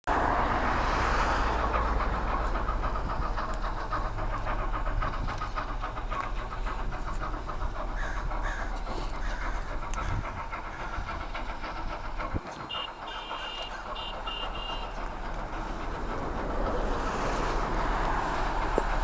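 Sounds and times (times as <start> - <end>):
steam locomotive chuffing: 0.1 - 19.0.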